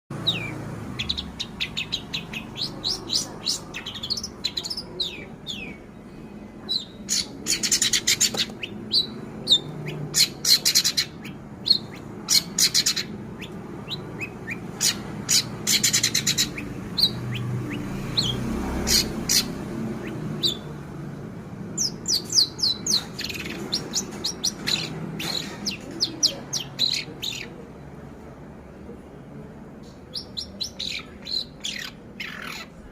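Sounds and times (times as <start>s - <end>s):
shrike singing chirps and trills: 0.1s - 6.0s, 6.6s - 21.0s, 21.7s - 27.6s, 30.1s - 32.9s.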